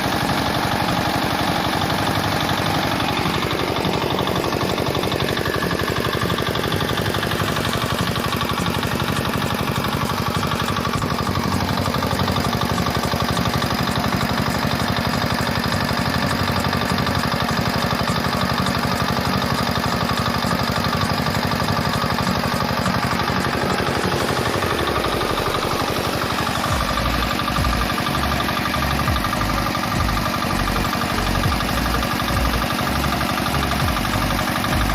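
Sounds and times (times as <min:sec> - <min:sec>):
diesel engine knocking: 0:00.0 - 0:34.9.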